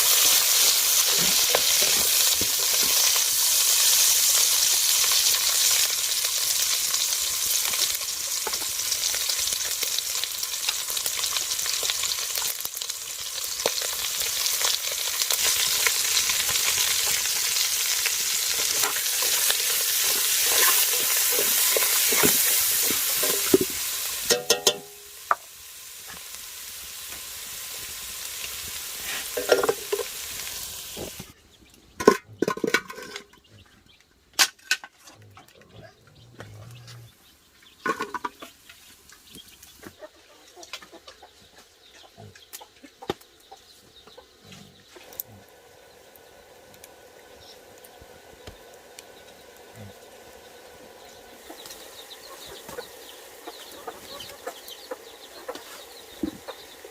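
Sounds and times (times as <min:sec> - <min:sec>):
food sizzling in a pan: 0:00.0 - 0:31.4, 0:36.6 - 0:40.1, 0:44.8 - 0:56.9.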